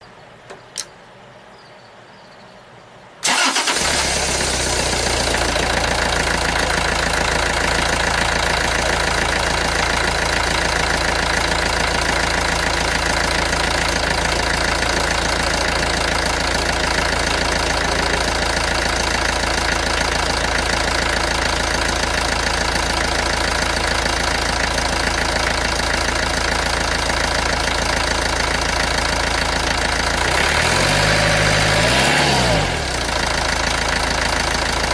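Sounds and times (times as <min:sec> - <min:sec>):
diesel engine starting and idling: 0:03.2 - 0:34.9.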